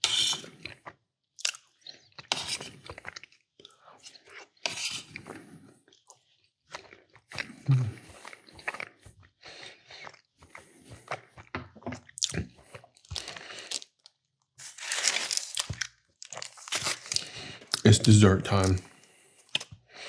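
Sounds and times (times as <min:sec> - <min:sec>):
person crunching and chewing food: 0:00.0 - 0:20.0.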